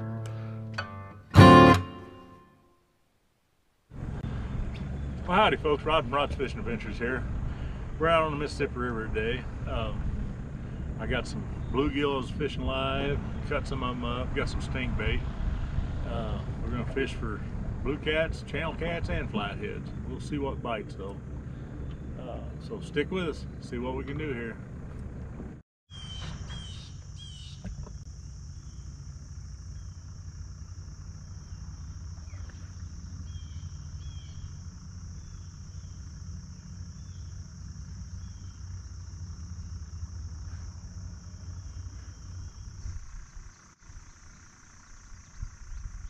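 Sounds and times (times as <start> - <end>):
low steady rumble: 3.9 - 25.6, 26.4 - 46.0
insects singing drone: 4.0 - 25.0, 25.9 - 46.0.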